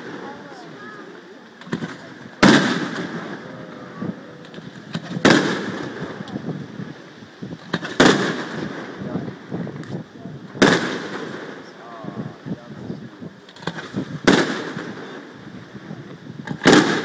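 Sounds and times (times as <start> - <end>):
sharp firework cracks: 0.0 - 6.9, 7.6 - 12.0, 13.4 - 15.6, 16.4 - 17.0
firework shells bursting: 0.0 - 11.9, 13.4 - 15.8, 16.4 - 17.0.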